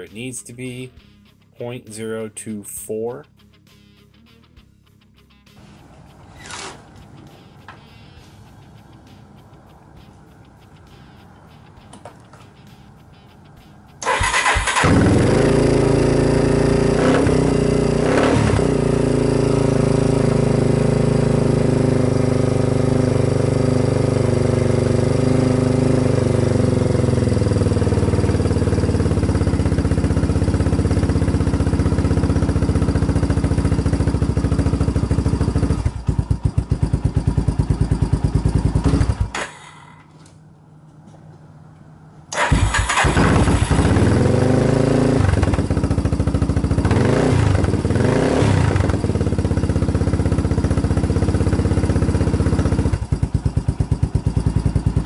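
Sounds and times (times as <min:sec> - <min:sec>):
atv engine idling: 0:06.9 - 0:40.3, 0:42.3 - 0:55.0.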